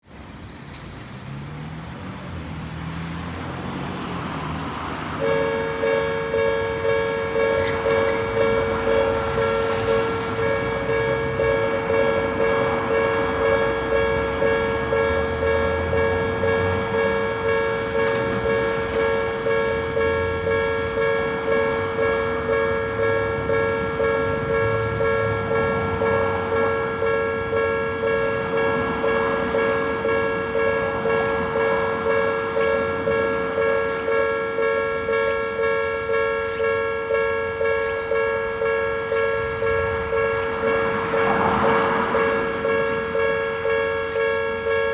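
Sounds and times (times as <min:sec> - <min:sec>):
level crossing alarm: 0:03.7 - 0:44.9.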